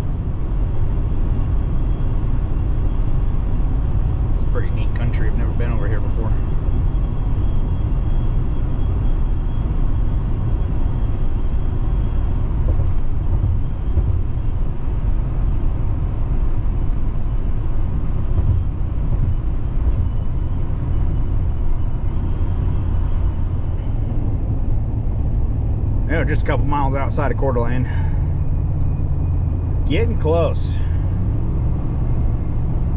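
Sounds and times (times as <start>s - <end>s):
truck engine and tyre rumble: 0.0s - 32.9s.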